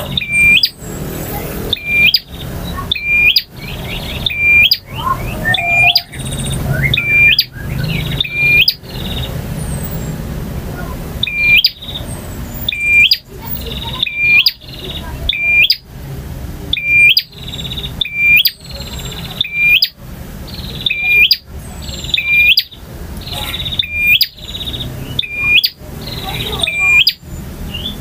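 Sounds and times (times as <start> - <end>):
bird singing buzzy trill: 0.0 - 15.9, 16.7 - 28.0.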